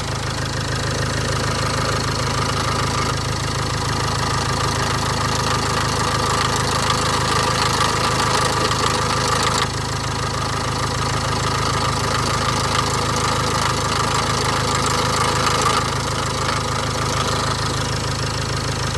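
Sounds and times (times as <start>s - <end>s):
diesel engine idling with rattle: 0.0s - 18.9s.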